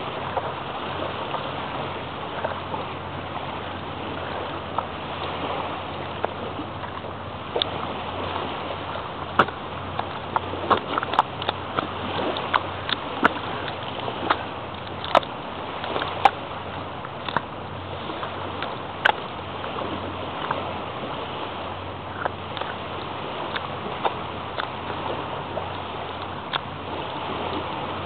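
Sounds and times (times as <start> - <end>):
feet squelching in wet mud: 4.0 - 28.0.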